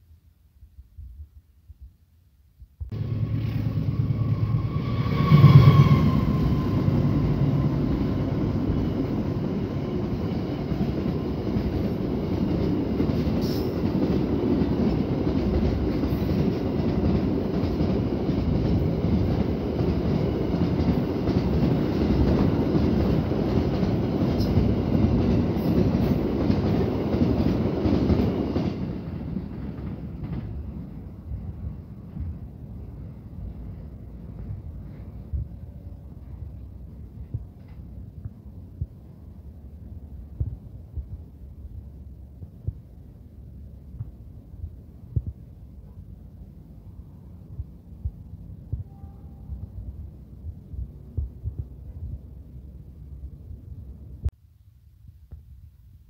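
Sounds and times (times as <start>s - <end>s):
freight train wheels rumbling: 2.9s - 54.3s.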